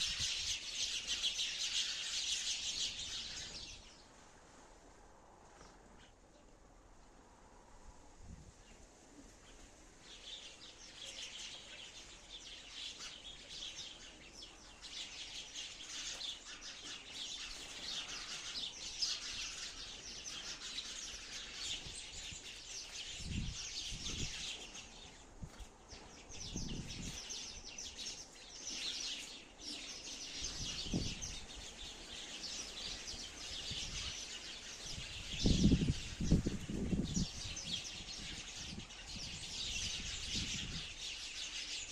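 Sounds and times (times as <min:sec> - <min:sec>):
sparrows chirping: 0:00.0 - 0:04.2, 0:08.6 - 0:41.9.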